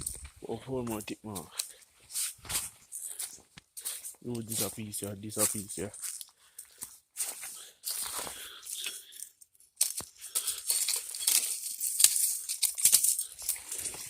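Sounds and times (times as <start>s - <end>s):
dry leaves and sticks crackling: 0.0s - 14.0s.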